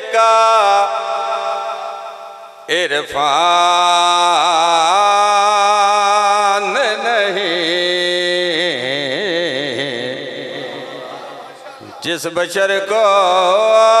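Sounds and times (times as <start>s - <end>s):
man chanting devotional verse: 0.0s - 14.0s.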